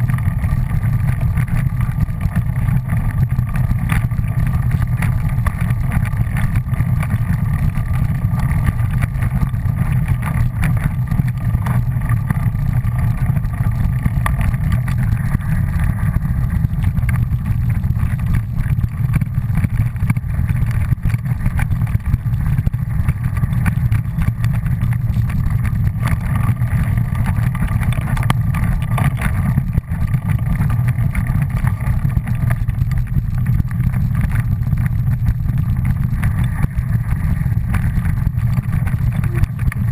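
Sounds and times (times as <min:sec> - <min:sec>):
rumble of ride on dirt trail: 0:00.0 - 0:39.9.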